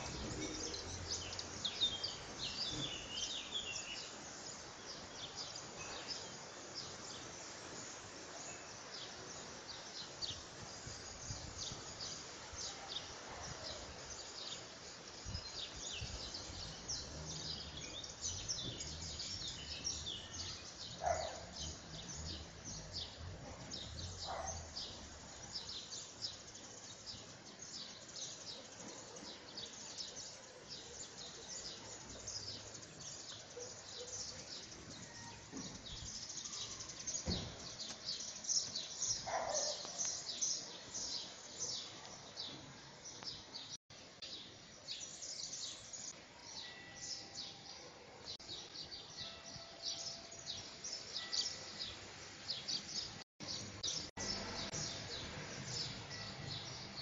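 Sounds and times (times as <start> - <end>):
birds chirping chorus: 0.0 - 57.0.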